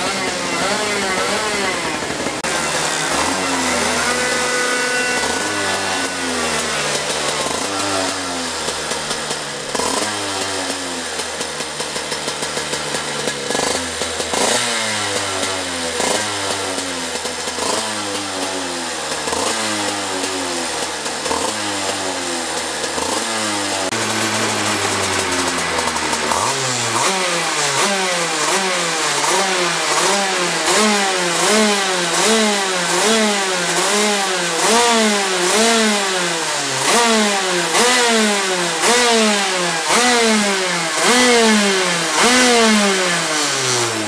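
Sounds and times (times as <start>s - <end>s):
two-stroke kart engine revving: 0.0s - 44.0s.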